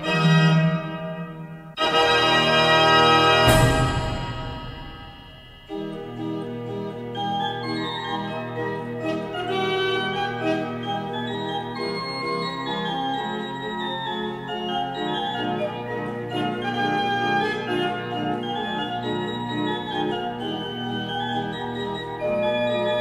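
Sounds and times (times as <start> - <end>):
pipe organ playing: 0.0 - 23.0.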